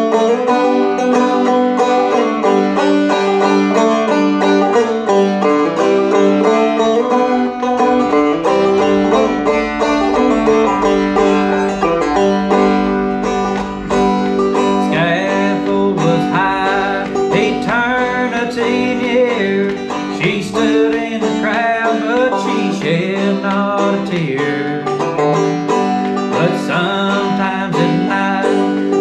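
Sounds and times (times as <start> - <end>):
banjo plucked melody: 0.0 - 29.0.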